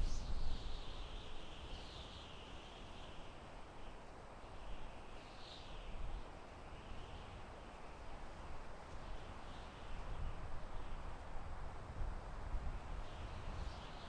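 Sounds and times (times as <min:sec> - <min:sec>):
wind rustling through trees: 0:00.0 - 0:14.0.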